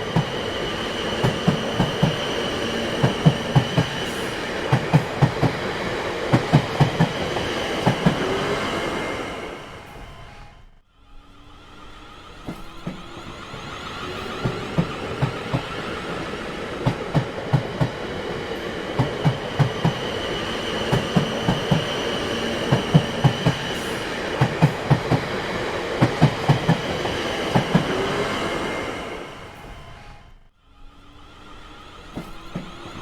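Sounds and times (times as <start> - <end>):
train wheels clacking on rails: 0.0 - 10.5, 11.9 - 30.2, 31.9 - 33.0
train rumble with high whine: 0.0 - 33.0.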